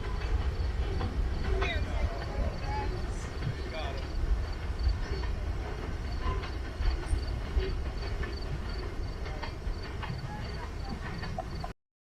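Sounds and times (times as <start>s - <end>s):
freight train rumbling past: 0.0s - 11.7s
wheel clicks on rails: 0.0s - 11.7s.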